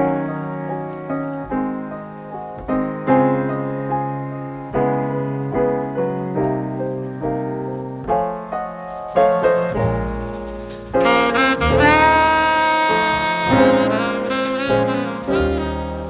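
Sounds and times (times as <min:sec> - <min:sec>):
jazz piano ballad: 0:00.0 - 0:16.0.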